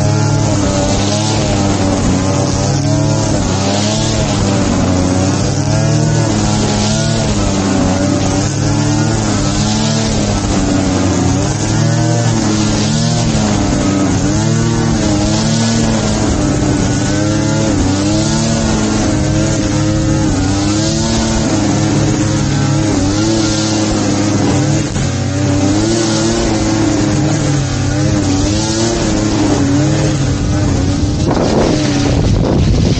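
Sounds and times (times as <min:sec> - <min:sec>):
small petrol engine running: 0:00.0 - 0:32.9.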